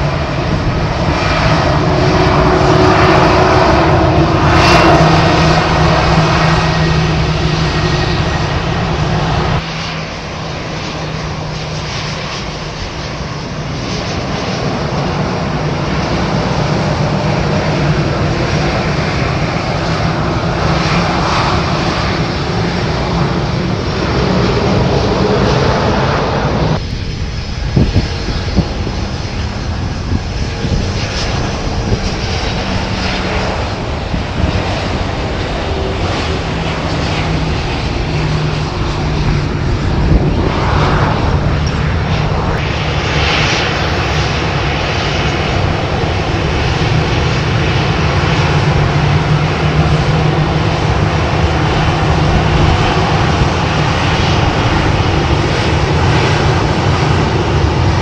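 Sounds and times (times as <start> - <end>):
jet engine noise: 0.0 - 58.0.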